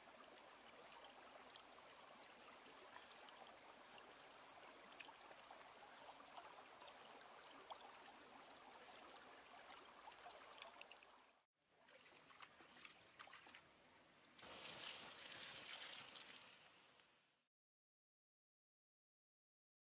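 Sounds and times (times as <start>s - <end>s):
stream trickling over rocks: 0.0s - 17.0s.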